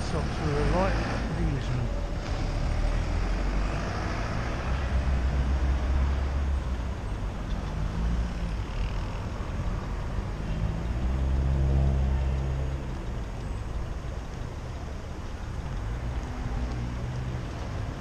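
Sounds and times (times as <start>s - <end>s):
vehicle engines running: 0.0s - 18.0s.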